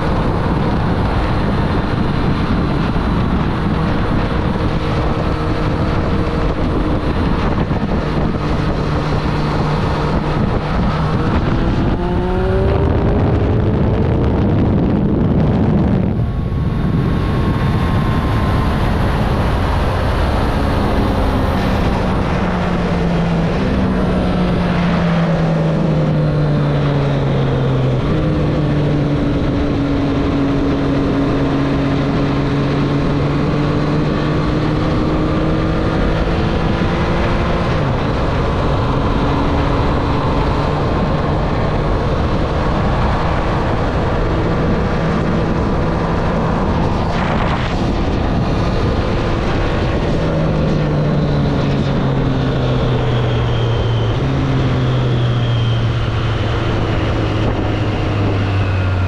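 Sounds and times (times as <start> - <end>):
motorcycle engine running: 0.0 - 52.4
wind rush: 0.0 - 59.0.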